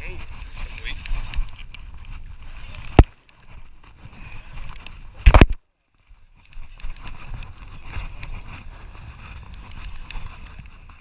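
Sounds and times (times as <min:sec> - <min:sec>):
wind buffeting microphone: 0:00.0 - 0:05.6, 0:06.3 - 0:11.0.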